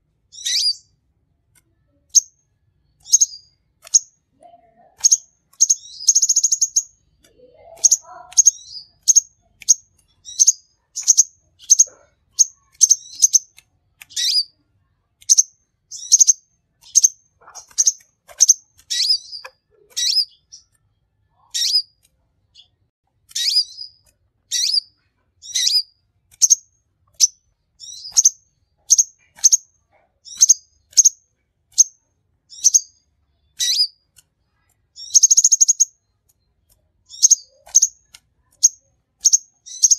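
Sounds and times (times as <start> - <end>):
buzzy bird trill: 0.3 - 0.9, 3.0 - 4.2, 4.8 - 14.6, 15.2 - 22.0, 23.3 - 34.1, 34.9 - 36.1, 37.1 - 39.9
sunbird chirping: 0.3 - 0.9, 2.1 - 4.2, 4.8 - 14.5, 15.2 - 20.8, 23.3 - 31.2, 31.8 - 34.0, 34.9 - 36.2, 37.1 - 39.9.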